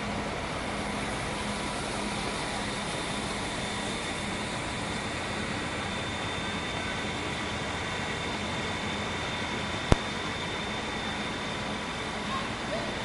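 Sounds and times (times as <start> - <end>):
train running drone: 0.0 - 13.0.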